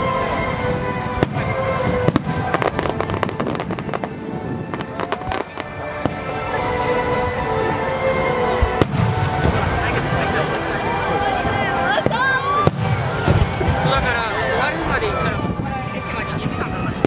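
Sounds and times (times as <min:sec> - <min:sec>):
fireworks bangs and crackles: 0:00.0 - 0:17.0
steady music: 0:00.0 - 0:17.0.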